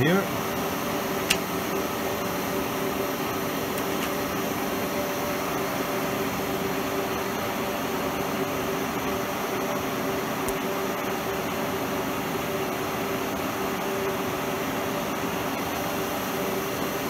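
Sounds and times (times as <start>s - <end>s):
milling machine humming with gear whine: 0.0s - 17.0s.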